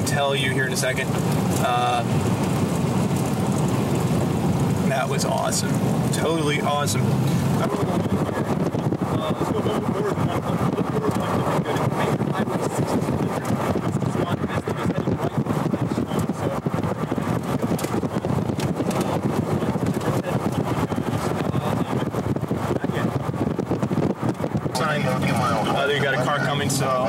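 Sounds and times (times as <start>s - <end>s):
vehicle rumbling: 0.0s - 27.0s
wind: 0.0s - 27.0s.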